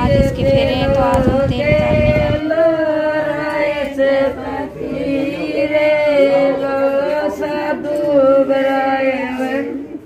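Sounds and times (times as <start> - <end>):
women singing long notes: 0.0 - 10.0.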